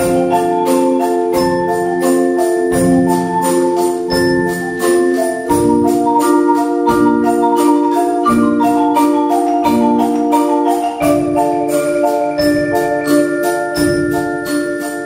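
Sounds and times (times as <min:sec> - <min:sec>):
high glockenspiel-like notes: 0:00.0 - 0:15.0
marimba and xylophone notes: 0:00.0 - 0:15.0.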